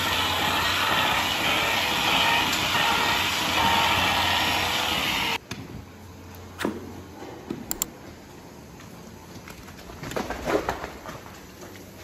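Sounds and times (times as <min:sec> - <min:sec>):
milking equipment hum: 0:00.0 - 0:10.2.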